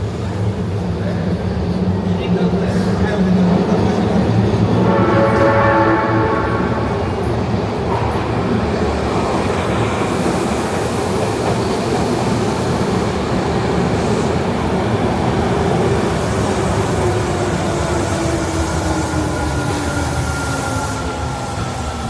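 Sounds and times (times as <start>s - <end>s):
electric train rumbling and rattling: 0.0s - 22.0s.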